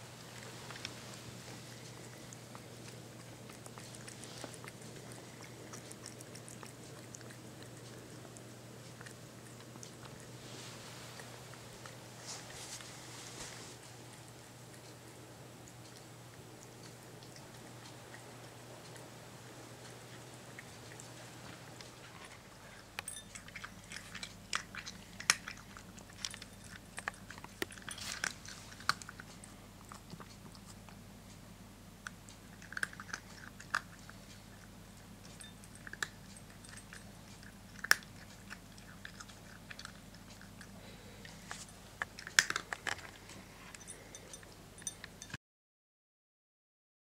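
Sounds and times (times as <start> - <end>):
cat crunching dry kibble: 0.0 - 31.4, 32.0 - 45.2
faint low hum: 0.0 - 45.4.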